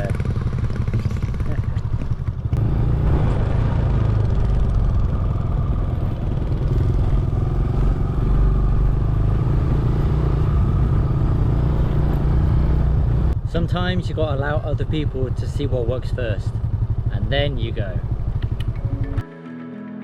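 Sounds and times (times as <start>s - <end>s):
motorbike engine running: 0.0s - 19.2s.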